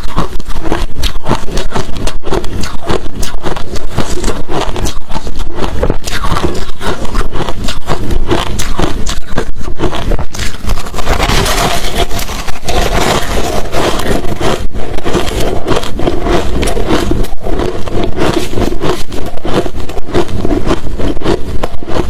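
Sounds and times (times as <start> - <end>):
crushed ice being chewed: 0.0 - 22.0.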